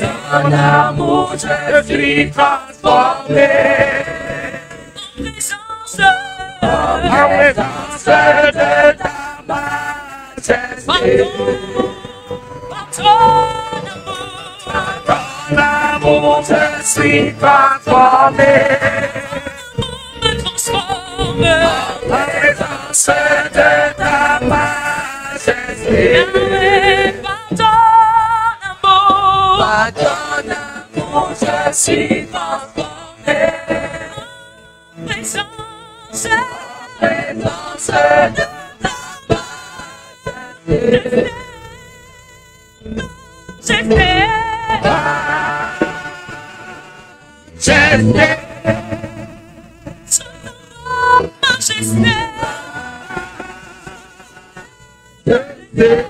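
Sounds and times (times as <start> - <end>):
congregation singing: 0.0 - 41.9, 42.9 - 56.0
woman singing with vibrato: 0.0 - 56.0.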